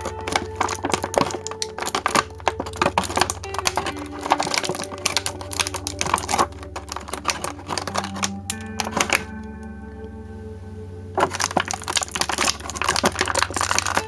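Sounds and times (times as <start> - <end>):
plastic packaging crackling: 0.0 - 9.8, 11.0 - 14.0
background music: 0.0 - 14.0
steady low hum: 0.0 - 14.0.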